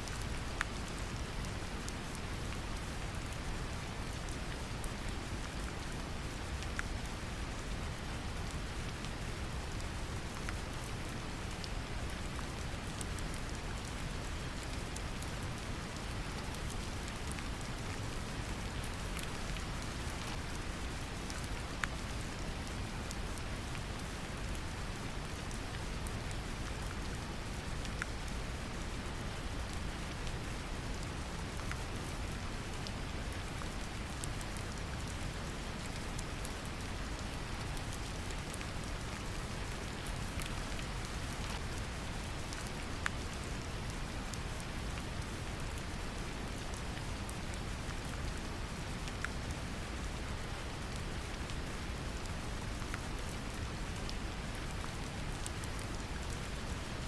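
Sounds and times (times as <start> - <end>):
gentle rain: 0.0 - 57.0.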